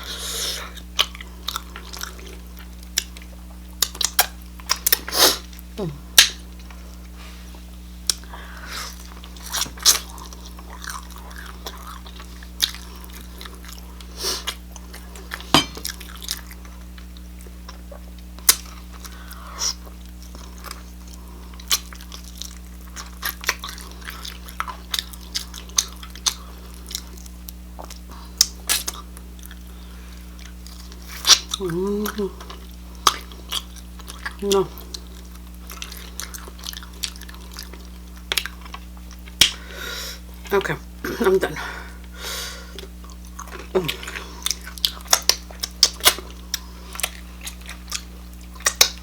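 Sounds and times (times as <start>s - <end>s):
low electrical hum: 0.0s - 49.0s
chewing and smacking: 0.7s - 7.2s, 8.0s - 40.6s, 42.7s - 49.0s.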